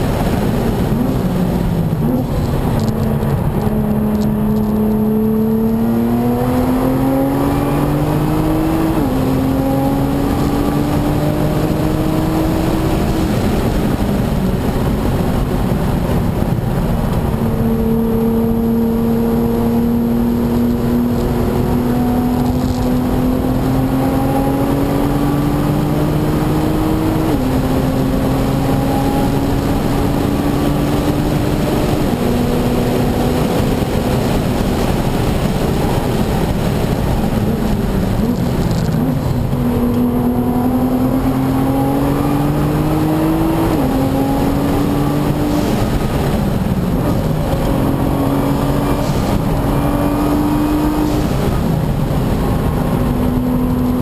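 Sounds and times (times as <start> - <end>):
car engine revving through upshifts: 0.0 - 54.0
wind and tyre noise: 0.0 - 54.0.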